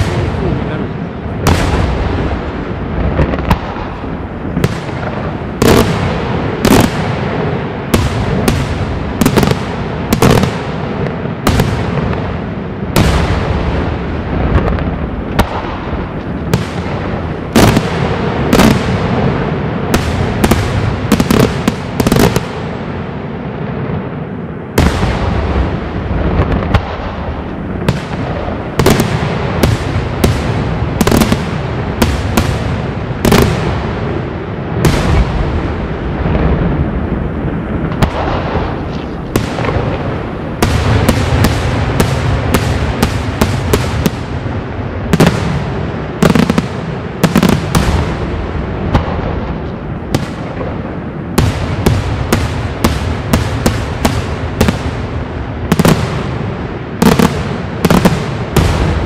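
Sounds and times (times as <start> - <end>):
constant low rumble: 0.0 - 59.0
fireworks bursting with loud bangs: 0.0 - 59.0.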